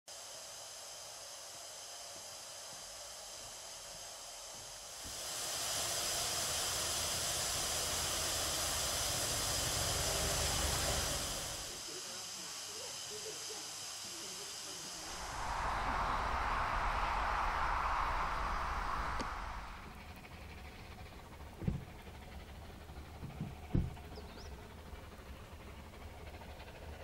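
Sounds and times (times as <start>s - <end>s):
lower-pitched steam hiss: 0.1s - 27.0s
steam locomotive hissing: 0.2s - 27.0s.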